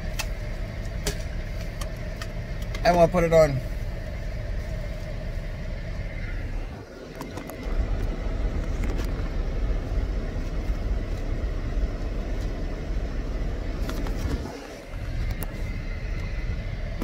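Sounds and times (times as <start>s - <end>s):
car cabin low rumble: 0.0s - 17.0s.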